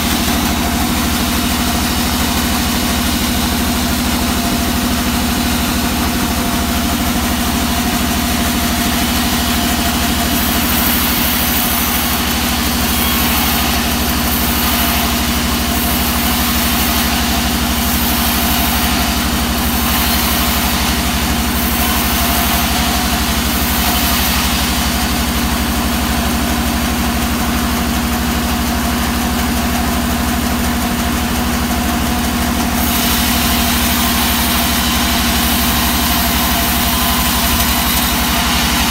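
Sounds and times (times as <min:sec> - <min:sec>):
saw hiss: 0:00.0 - 0:26.2, 0:32.7 - 0:38.9
band saw machine hum: 0:00.0 - 0:38.9.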